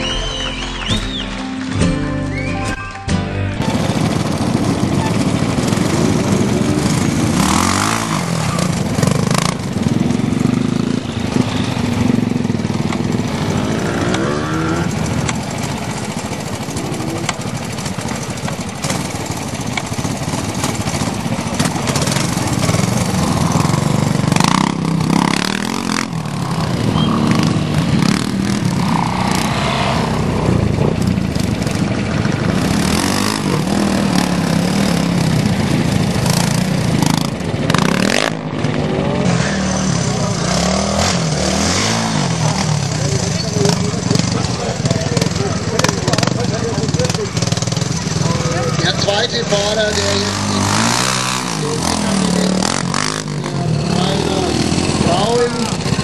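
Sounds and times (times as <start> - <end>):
motorcycle engine revving: 3.6 - 56.0.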